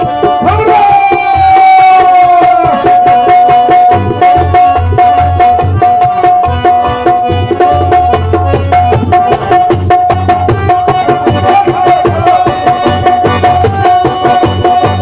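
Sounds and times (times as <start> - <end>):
fast driving drum rhythm: 0.0 - 15.0.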